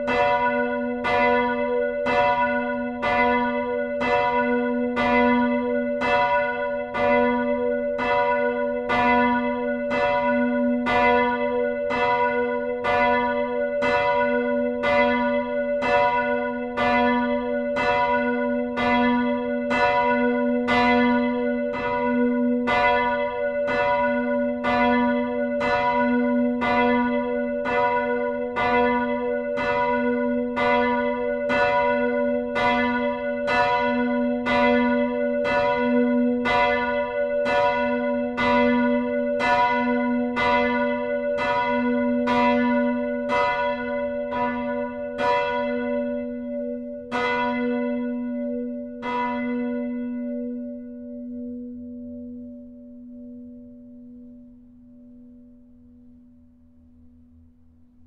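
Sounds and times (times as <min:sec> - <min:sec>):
church bell ringing: 0:00.0 - 0:57.5.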